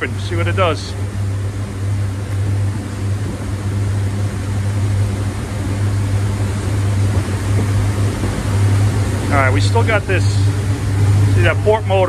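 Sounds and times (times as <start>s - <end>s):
boat engines droning: 0.0s - 12.0s
water rushing: 0.0s - 12.0s.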